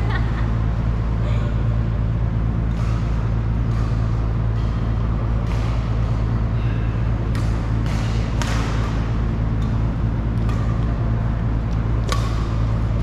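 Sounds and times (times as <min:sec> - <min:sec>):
loud steady low hum: 0:00.0 - 0:13.0
rackets hitting shuttlecocks: 0:02.5 - 0:13.0.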